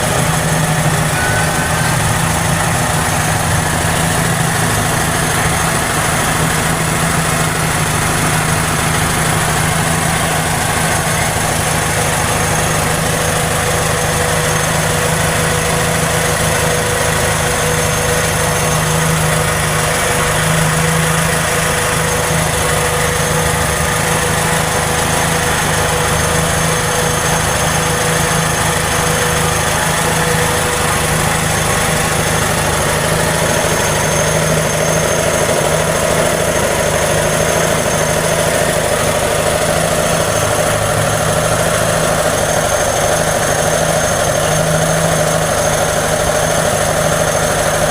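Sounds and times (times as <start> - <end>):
car engine idling with knock: 0.0 - 47.9.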